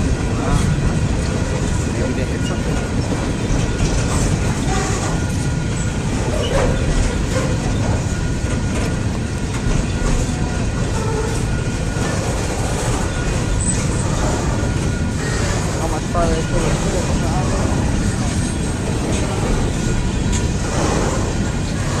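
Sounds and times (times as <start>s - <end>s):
train wheels rumbling on track: 0.0s - 22.0s
wheel squeals: 2.0s - 22.0s.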